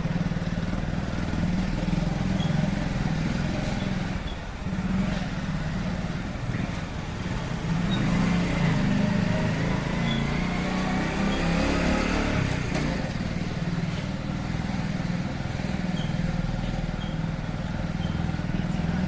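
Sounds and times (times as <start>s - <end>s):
motorcycle engine running: 0.0s - 19.0s
traffic noise: 0.0s - 19.0s.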